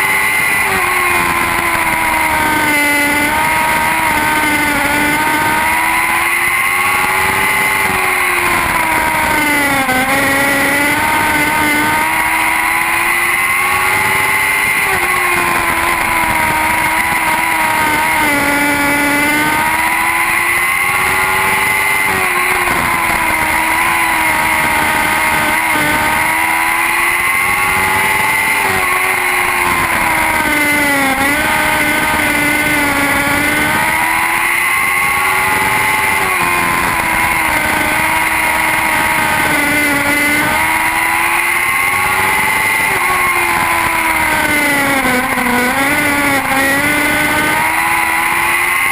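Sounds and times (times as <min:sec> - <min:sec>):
racing car engines revving: 0:00.0 - 0:48.9.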